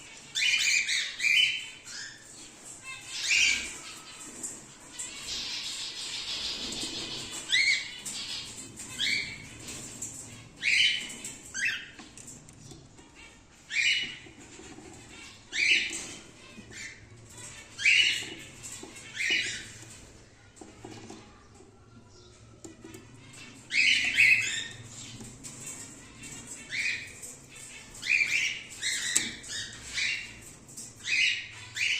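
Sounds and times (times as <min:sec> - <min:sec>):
cockatiels screeching calls: 0:00.3 - 0:12.0, 0:13.7 - 0:20.0, 0:22.9 - 0:31.9.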